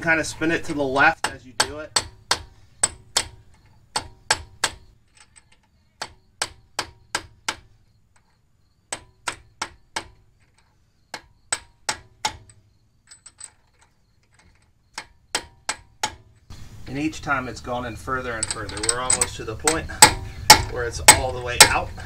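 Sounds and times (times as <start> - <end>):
rubber mallet hammering metal: 1.0 - 13.5, 14.3 - 16.5, 18.4 - 22.0.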